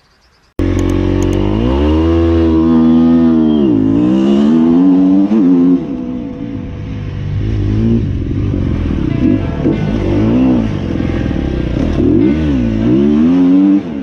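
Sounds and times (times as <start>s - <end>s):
motorcycle engine revving: 0.6s - 14.0s.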